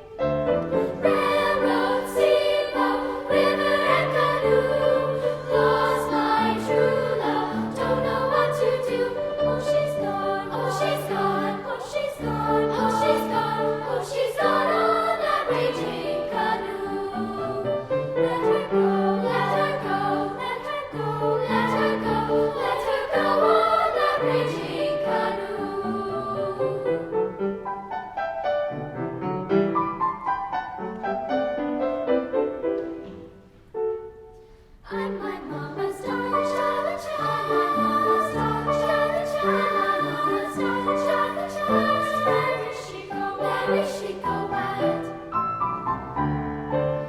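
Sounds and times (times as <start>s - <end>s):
children's choir singing: 0.0s - 28.0s, 34.8s - 46.4s.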